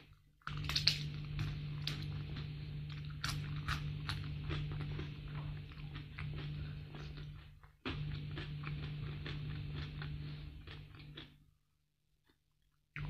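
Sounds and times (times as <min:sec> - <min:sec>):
crunchy chewing of fried fish: 0:00.0 - 0:11.4
low hum: 0:00.1 - 0:11.3.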